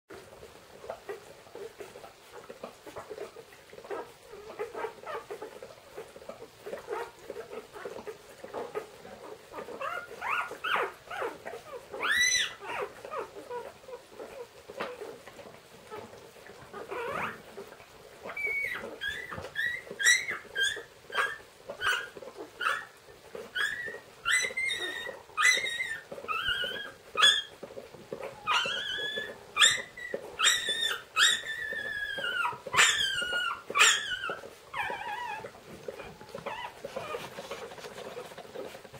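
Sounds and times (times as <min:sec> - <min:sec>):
puppies squeaking and crying: 0:00.8 - 0:38.9.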